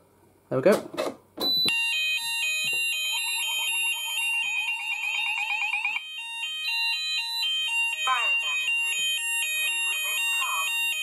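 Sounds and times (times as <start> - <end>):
sweeping warble alarm: 1.4 - 11.0
two-tone fire alarm: 1.4 - 11.0.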